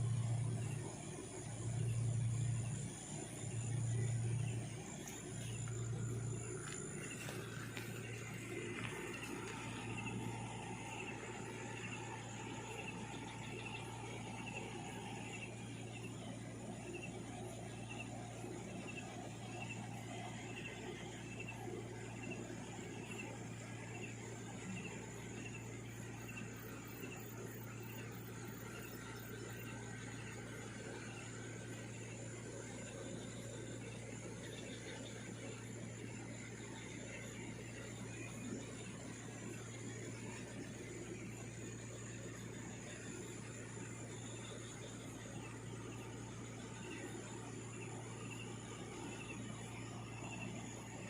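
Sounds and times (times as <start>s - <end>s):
high insect trill: 0.0s - 51.0s
low droning hum: 0.0s - 51.0s.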